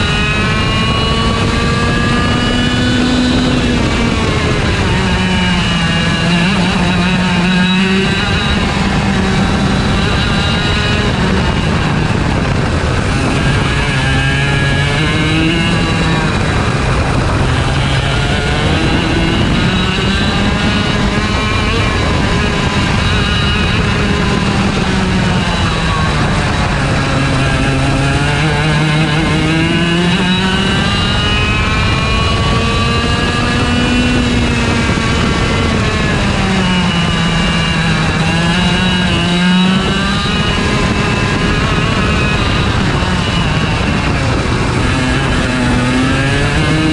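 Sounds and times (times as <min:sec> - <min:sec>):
kart engine running hard: 0:00.0 - 0:46.9.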